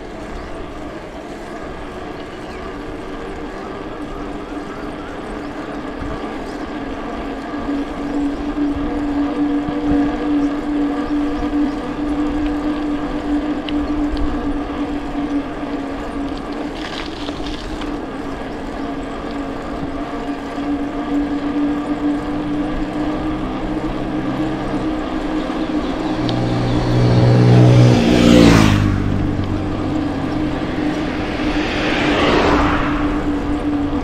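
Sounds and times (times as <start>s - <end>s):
bike tyres humming on road: 0.0s - 34.0s.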